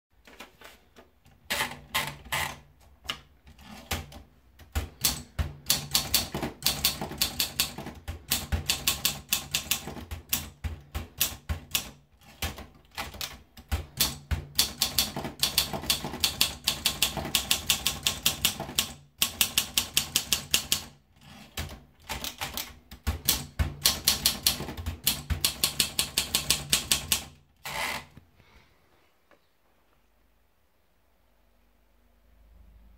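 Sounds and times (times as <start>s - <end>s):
manual typewriter typing: 1.3s - 28.2s.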